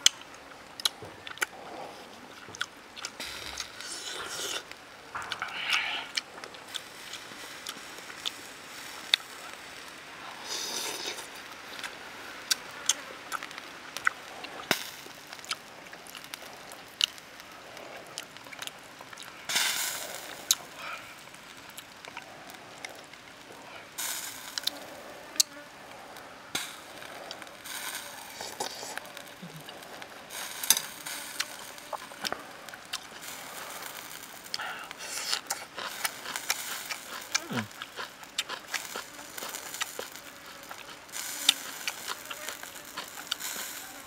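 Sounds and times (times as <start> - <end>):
chewing and mouth noises: 0.0 - 9.7, 10.3 - 19.5, 20.1 - 44.0.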